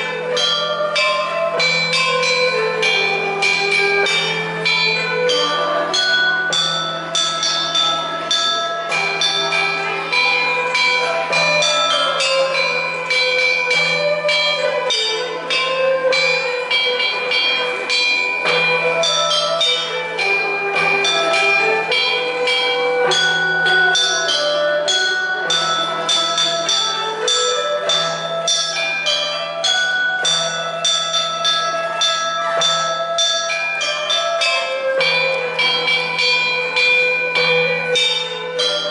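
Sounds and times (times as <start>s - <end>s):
chime bells melody: 0.0s - 38.9s.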